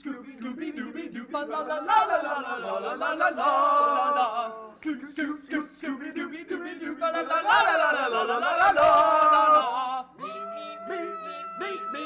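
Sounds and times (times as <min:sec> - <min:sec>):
men singing a cappella: 0:00.0 - 0:12.0.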